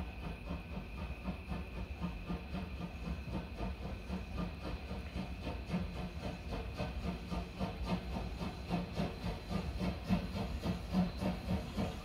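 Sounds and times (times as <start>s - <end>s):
steam hissing: 0.0s - 12.0s
steam locomotive chuffing: 0.0s - 12.0s.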